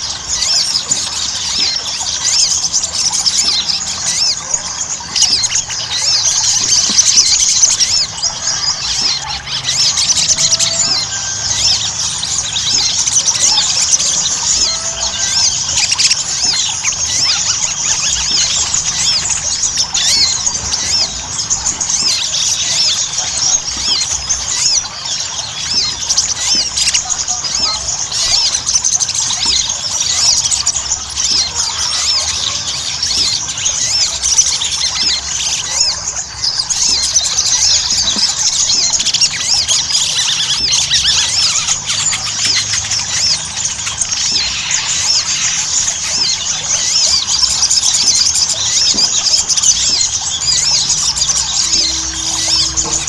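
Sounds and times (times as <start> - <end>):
sunbird chirping and twittering: 0.0 - 53.0.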